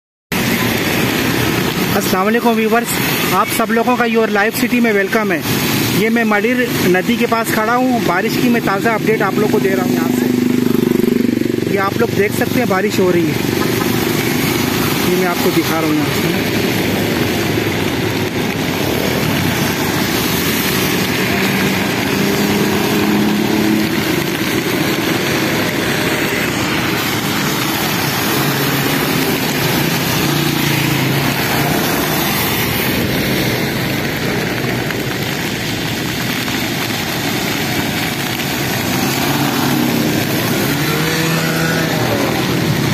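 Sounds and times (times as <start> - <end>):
rain: 0.3 - 42.9
vehicles passing on wet road: 0.3 - 42.9.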